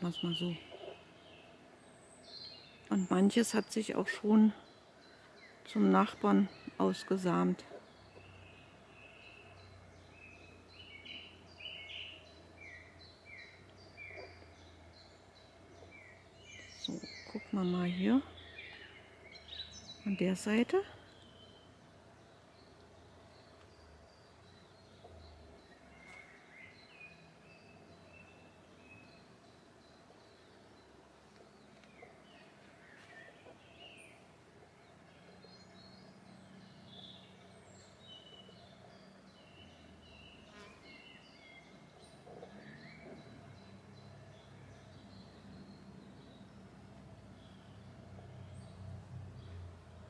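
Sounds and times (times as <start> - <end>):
birds chirping faintly: 0.0 - 50.0.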